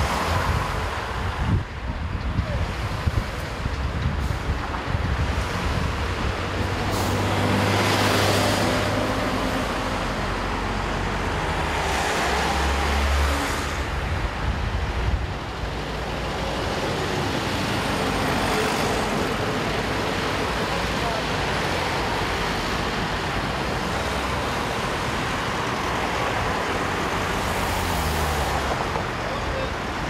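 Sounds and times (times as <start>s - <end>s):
road traffic noise: 0.0s - 30.0s
truck diesel engines running: 0.0s - 30.0s.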